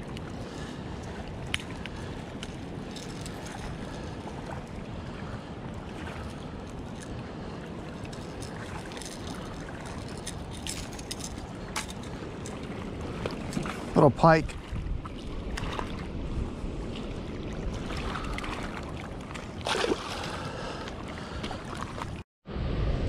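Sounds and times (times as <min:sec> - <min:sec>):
water noise around kayak: 0:00.0 - 0:23.0
wind rumble on microphone: 0:00.0 - 0:23.0.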